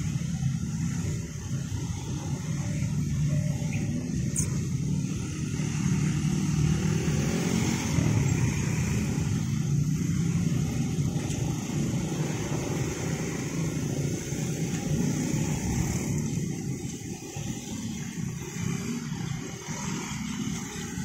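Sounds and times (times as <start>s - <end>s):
engines running and revving: 0.0s - 21.0s.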